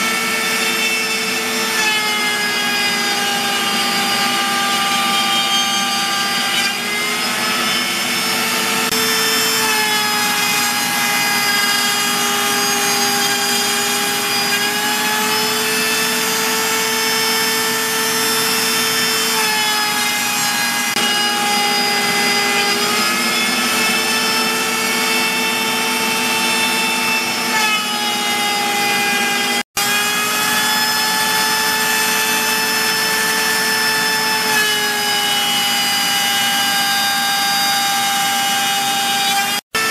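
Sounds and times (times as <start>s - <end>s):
router spindle whining while cutting wood: 0.0s - 39.9s.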